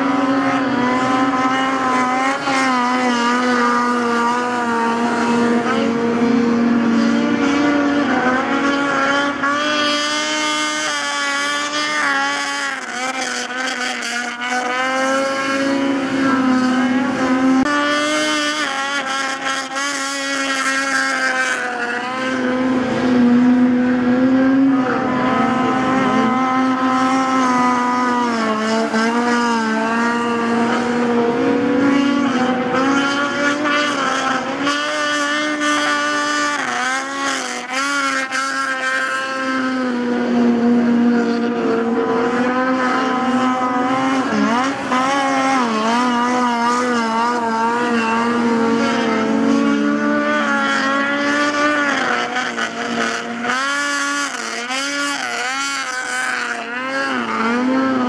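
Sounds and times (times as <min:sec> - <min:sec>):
snowmobile engines revving: 0:00.0 - 0:58.0.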